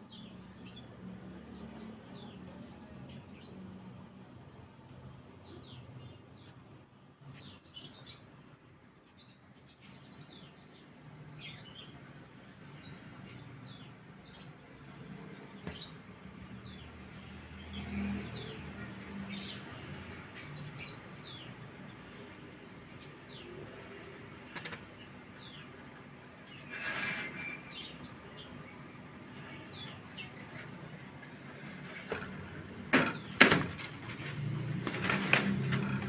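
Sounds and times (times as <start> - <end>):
small birds chirping: 0.0 - 35.8.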